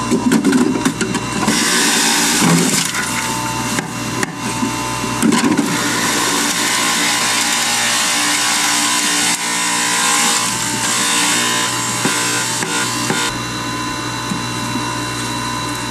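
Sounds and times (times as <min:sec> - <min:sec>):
electric juicer whining and grinding: 0:00.0 - 0:15.9.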